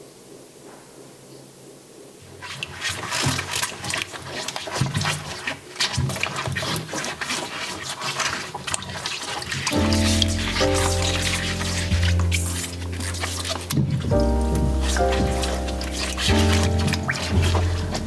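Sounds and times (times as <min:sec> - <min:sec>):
water running and splashing: 0:02.2 - 0:18.0.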